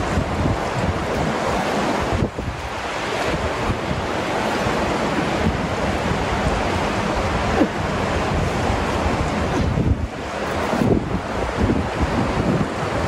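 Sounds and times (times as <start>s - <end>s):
fast river rushing: 0.0s - 13.0s.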